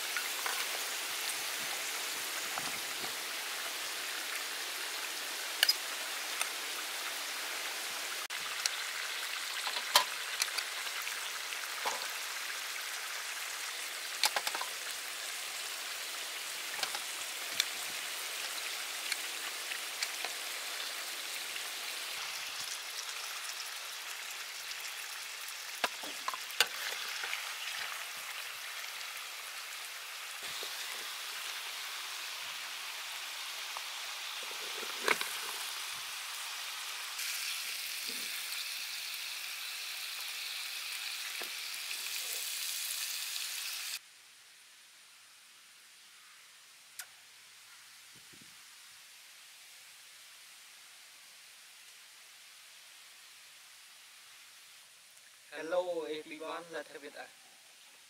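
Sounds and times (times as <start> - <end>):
food sizzling in a wok: 0.0 - 58.0.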